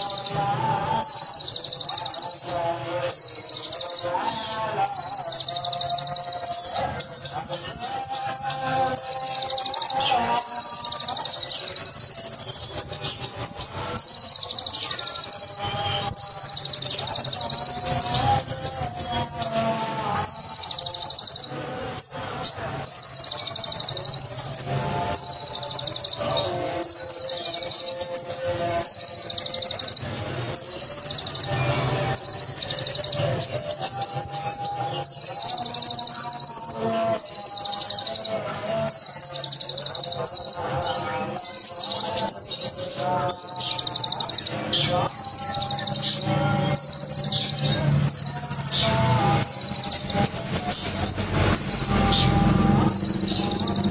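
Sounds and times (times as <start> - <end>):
bird chirping notes: 0.0 - 53.9
bird rapid rattling trills: 0.0 - 53.9.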